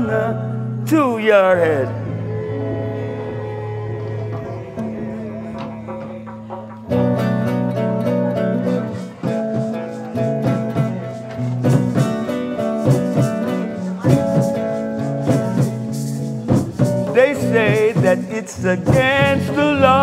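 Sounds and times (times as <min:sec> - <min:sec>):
electric guitar picking melody: 0:00.0 - 0:20.0
reggae band playing: 0:00.0 - 0:20.0.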